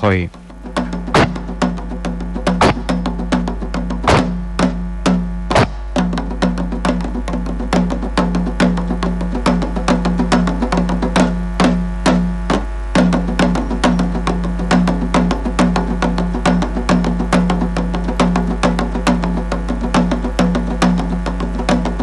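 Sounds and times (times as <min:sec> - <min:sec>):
drums: 0:00.0 - 0:22.0.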